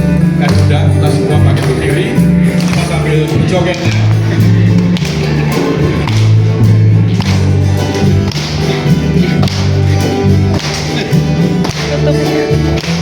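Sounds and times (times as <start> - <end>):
music with steady beat: 0.0 - 13.0.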